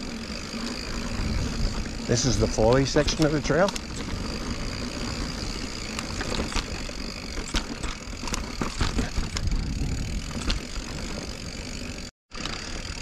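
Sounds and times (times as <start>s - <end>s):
tyres rushing on dirt: 0.0s - 12.8s
bike clicks and rattles: 0.0s - 13.0s.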